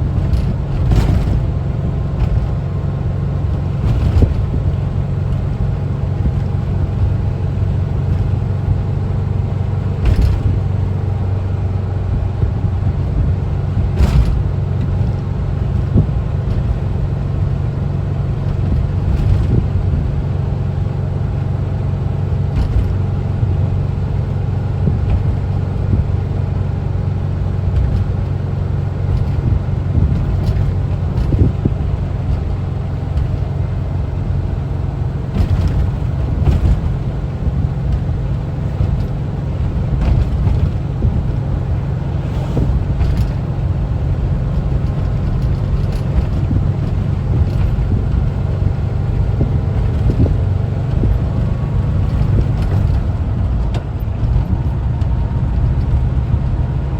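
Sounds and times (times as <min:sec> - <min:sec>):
van engine droning: 0:00.0 - 0:56.9.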